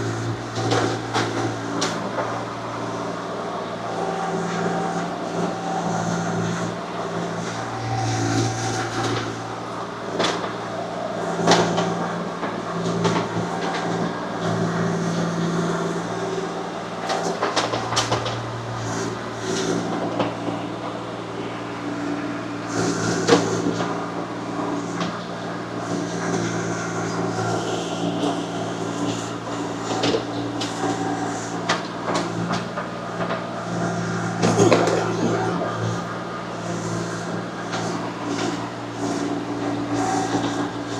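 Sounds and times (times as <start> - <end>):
excavator engine running: 0.0 - 25.8, 27.2 - 40.9.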